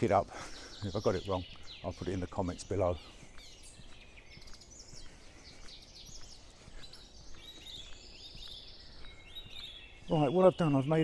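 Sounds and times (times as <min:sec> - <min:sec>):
faint outdoor background noise: 0:00.0 - 0:11.0
songbirds chirping and singing: 0:00.0 - 0:11.0.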